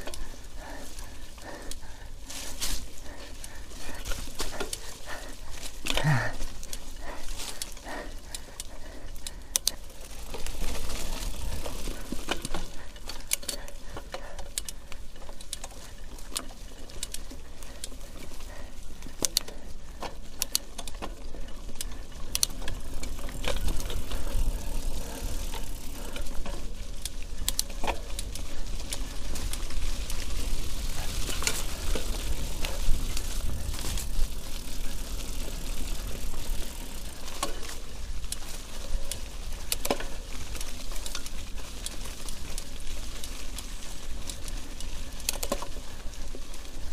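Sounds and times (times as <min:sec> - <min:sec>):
bike chain and frame rattling: 0:00.0 - 0:46.9
tyres on mud: 0:00.0 - 0:46.9.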